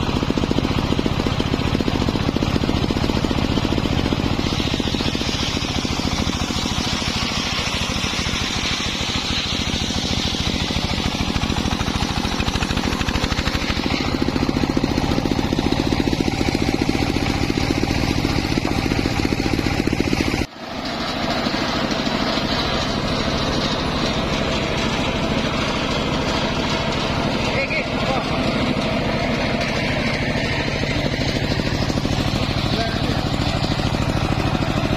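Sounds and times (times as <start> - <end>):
engine running circular saw: 0.0 - 34.9.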